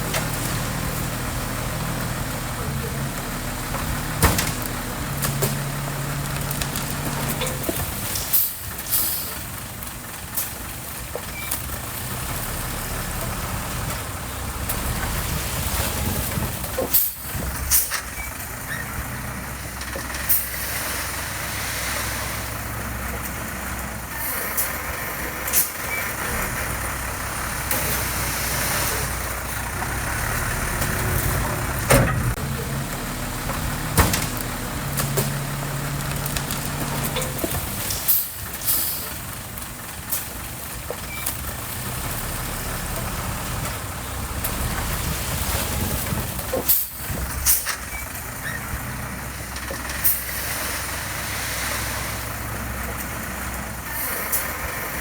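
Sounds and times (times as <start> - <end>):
diesel machinery running: 0.0 - 55.0.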